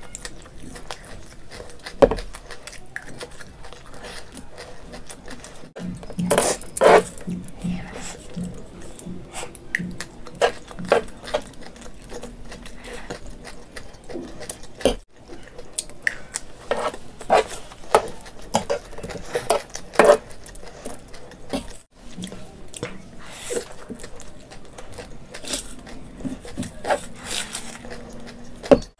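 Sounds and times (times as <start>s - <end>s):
person chewing: 0.0s - 28.9s.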